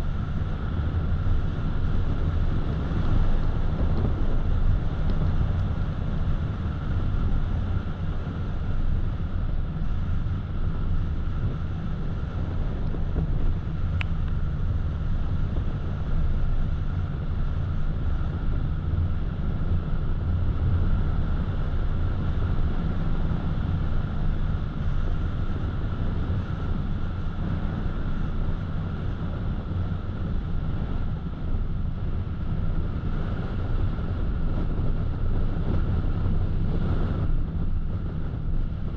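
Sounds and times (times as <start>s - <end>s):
car driving rumble: 0.0s - 38.9s
faint steady whine: 0.0s - 38.9s.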